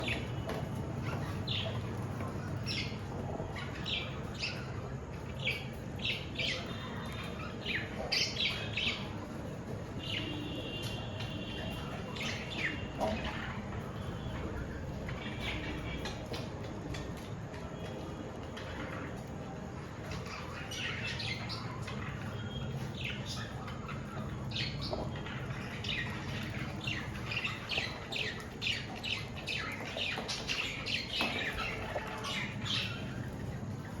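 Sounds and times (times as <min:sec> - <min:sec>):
budgerigars chirping and squawking: 0:00.0 - 0:17.3, 0:17.9 - 0:34.0.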